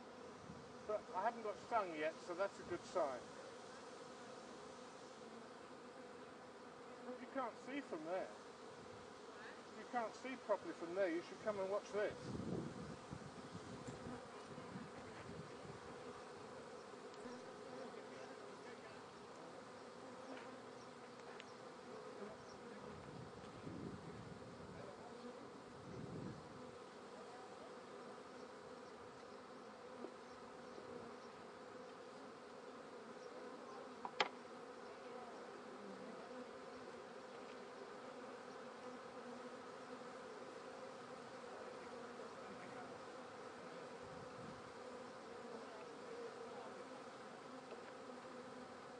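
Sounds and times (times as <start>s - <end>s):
bees buzzing: 0.0s - 48.9s.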